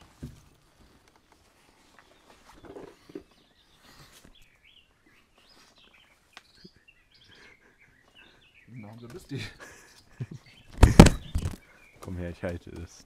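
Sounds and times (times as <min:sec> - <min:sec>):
birds chirping faintly: 0:00.1 - 0:13.0.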